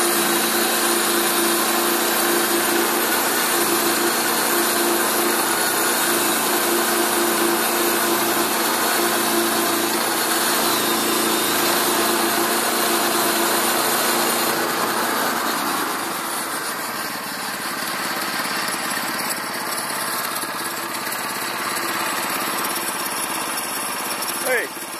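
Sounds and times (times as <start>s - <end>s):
band blade sawing log: 0.0s - 24.9s
gasoline engine running: 0.0s - 24.9s.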